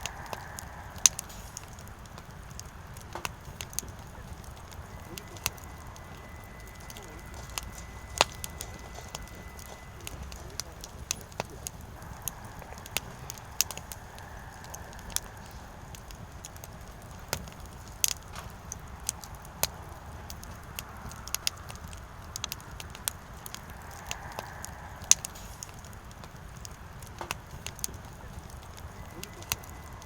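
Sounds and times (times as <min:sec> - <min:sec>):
firewood crackling and popping: 0:00.0 - 0:30.0
low rumble of flames: 0:00.0 - 0:30.0.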